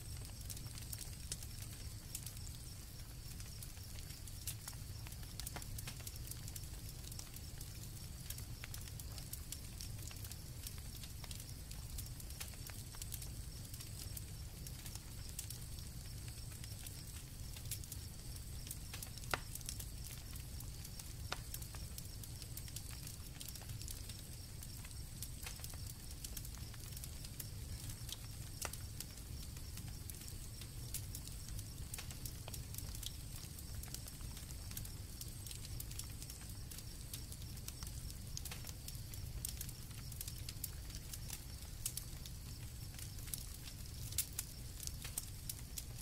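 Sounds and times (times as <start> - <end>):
campfire crackling: 0.0 - 46.0
crickets chirping: 0.0 - 46.0.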